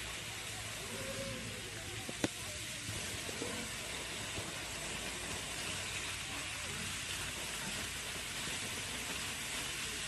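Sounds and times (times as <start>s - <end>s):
water jet spraying: 0.0s - 10.0s.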